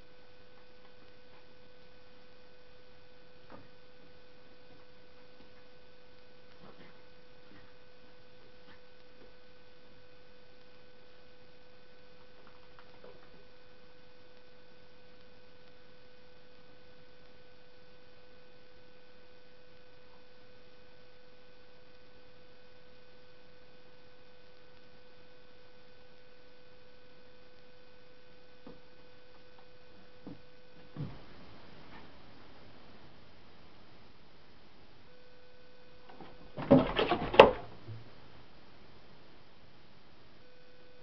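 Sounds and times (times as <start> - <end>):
electrical hum: 0.0 - 41.0.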